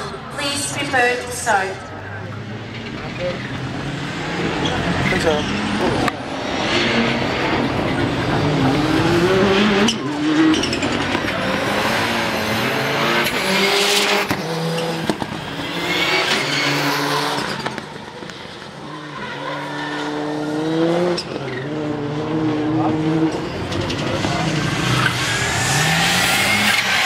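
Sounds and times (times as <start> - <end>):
race car engines revving: 0.0 - 27.0.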